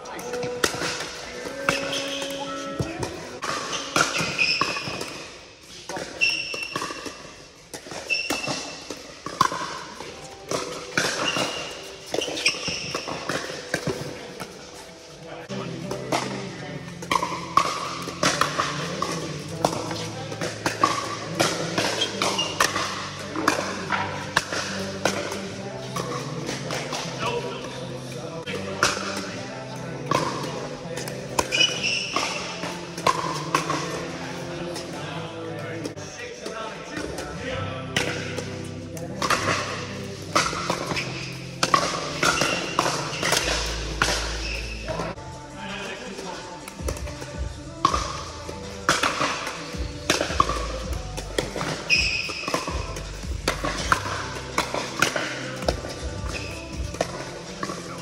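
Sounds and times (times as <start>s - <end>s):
ball bouncing on court: 0.2s - 5.3s, 5.9s - 14.6s, 15.5s - 27.8s, 30.0s - 35.0s, 36.9s - 45.2s, 46.6s - 58.0s
paddles hitting plastic ball: 0.2s - 14.6s, 15.5s - 35.2s, 35.8s - 45.1s, 46.0s - 58.0s.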